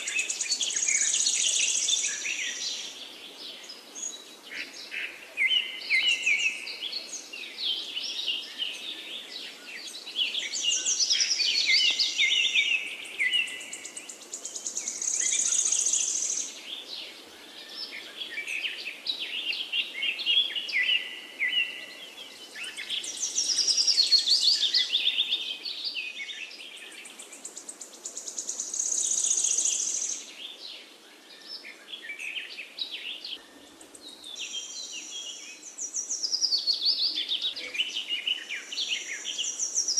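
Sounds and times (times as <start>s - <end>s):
birds singing and trilling: 0.0s - 39.9s
faint background hiss: 0.0s - 39.9s.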